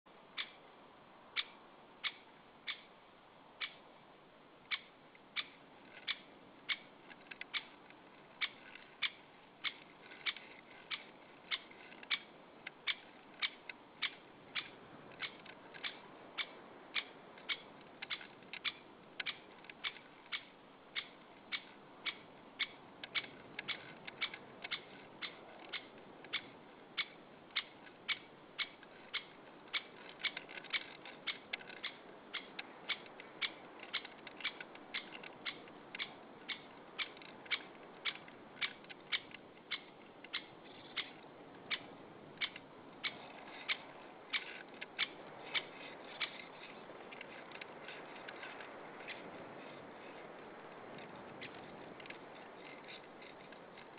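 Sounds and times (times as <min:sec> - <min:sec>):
woodpecker calling: 0:00.2 - 0:04.0, 0:04.6 - 0:53.9.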